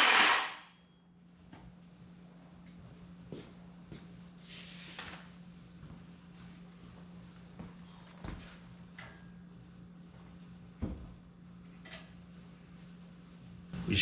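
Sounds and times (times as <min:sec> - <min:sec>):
steady low hum: 0:00.8 - 0:14.0.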